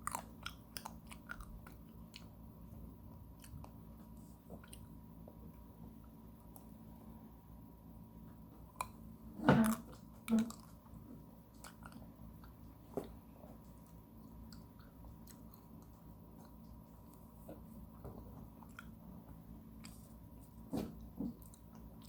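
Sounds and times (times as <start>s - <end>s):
quiet chewing with small clicks: 0.0s - 6.9s, 8.2s - 22.0s.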